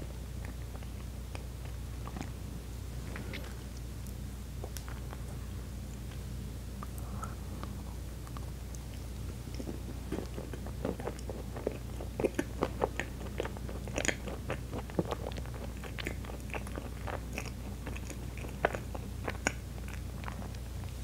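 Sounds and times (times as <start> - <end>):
person chewing soft cake: 0.0 - 21.0.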